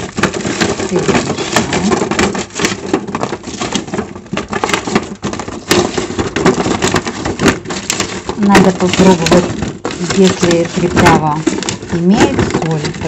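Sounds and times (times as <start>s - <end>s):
vegetable sticks tumbling in container: 0.0s - 13.0s.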